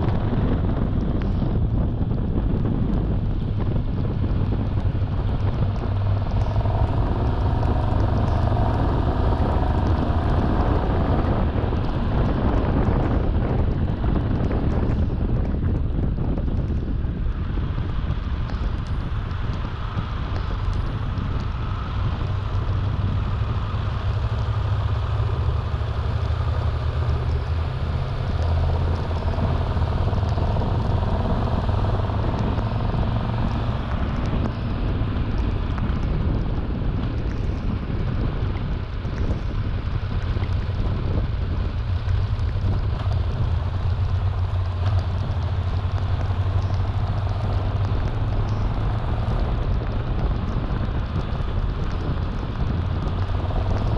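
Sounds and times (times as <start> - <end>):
motorcycle engine humming: 0.0 - 53.9
wind noise on microphone: 0.0 - 53.9.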